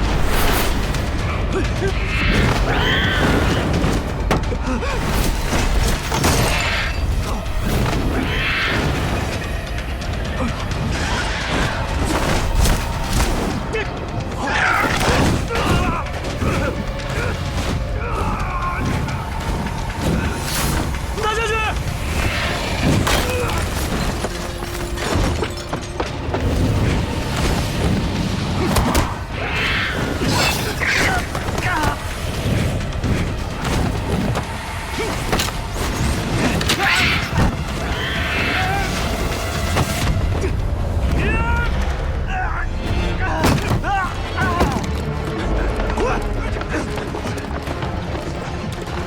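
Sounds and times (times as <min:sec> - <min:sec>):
dramatic music: 0:00.0 - 0:49.0.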